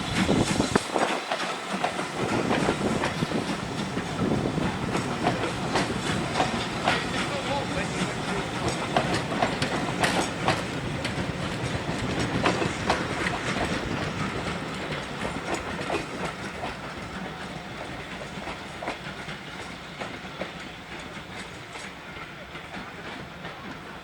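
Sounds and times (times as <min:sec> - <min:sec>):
train wheels clacking over rail joints: 0:00.0 - 0:24.0.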